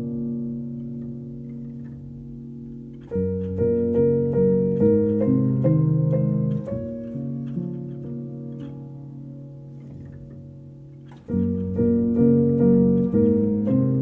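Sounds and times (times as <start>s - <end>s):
soft piano-like keyboard melody: 0.0s - 14.0s.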